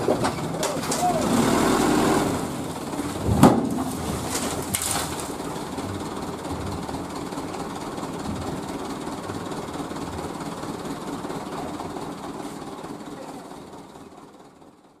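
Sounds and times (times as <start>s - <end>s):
dump truck engine running: 0.0s - 15.0s.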